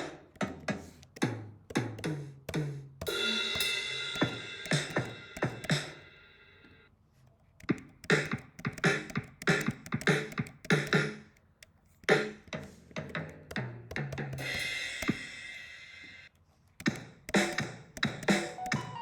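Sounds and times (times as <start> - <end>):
kick and snare drum beat: 0.0 - 6.2, 7.6 - 11.3, 12.0 - 16.2, 16.8 - 19.0.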